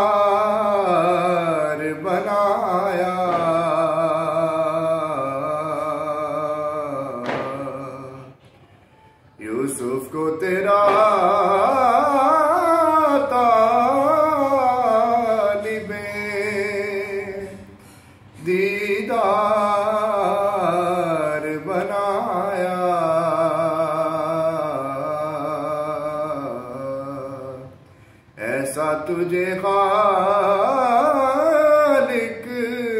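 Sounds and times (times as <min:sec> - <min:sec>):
man singing devotional poem: 0:00.0 - 0:08.4, 0:09.4 - 0:32.9.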